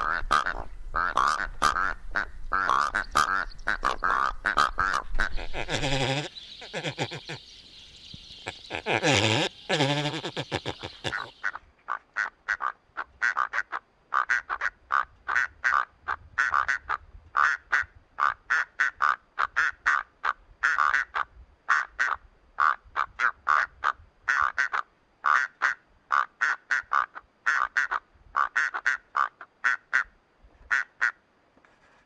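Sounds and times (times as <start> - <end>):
nasal duck-like animal calls: 0.0 - 31.2.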